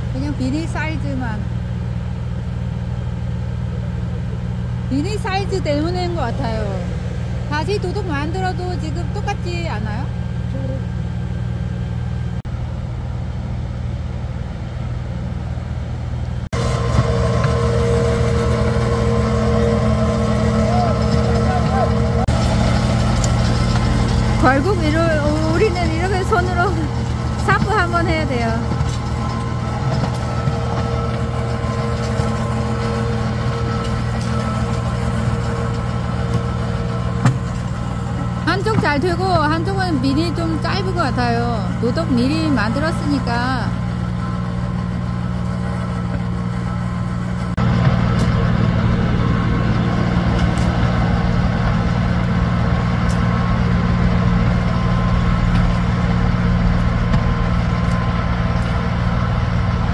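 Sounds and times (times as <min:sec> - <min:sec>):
farm machine engine running: 0:00.0 - 0:59.9.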